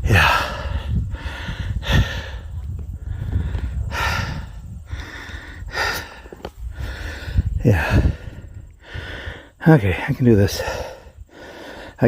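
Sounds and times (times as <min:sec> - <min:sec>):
man breathing heavily: 0:00.0 - 0:12.0.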